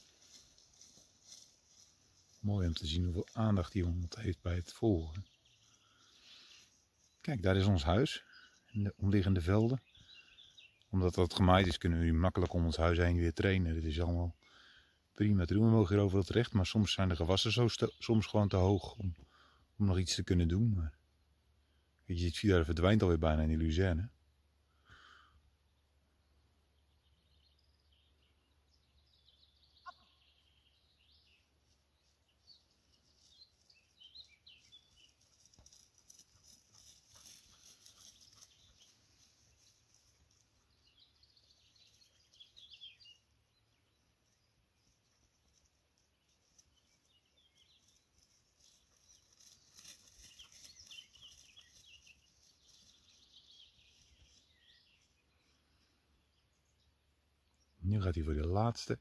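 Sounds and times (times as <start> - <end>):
distant birds chirping: 0.0 - 59.0.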